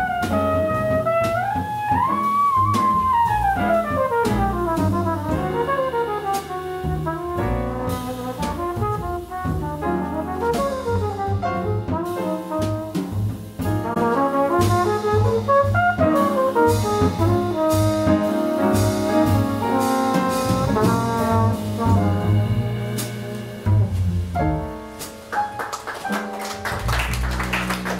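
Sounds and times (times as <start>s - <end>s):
flugelhorn solo: 0.0s - 13.0s, 13.9s - 23.6s
drums with cymbals: 0.0s - 25.3s
walking double bass: 0.0s - 25.5s, 26.6s - 27.9s
piano: 0.0s - 27.9s.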